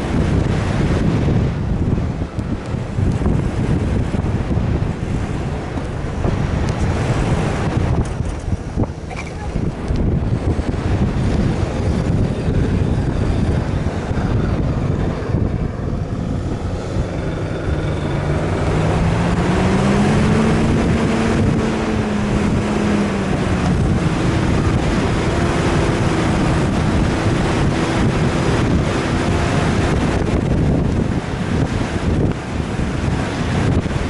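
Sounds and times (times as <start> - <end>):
vehicle engine running under load: 0.0 - 34.0
wind buffeting microphone: 0.0 - 34.0.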